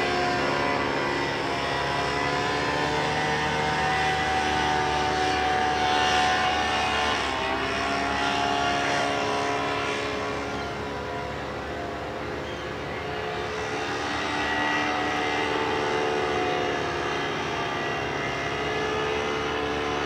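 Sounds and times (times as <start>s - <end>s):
paramotor engine droning: 0.0s - 20.0s.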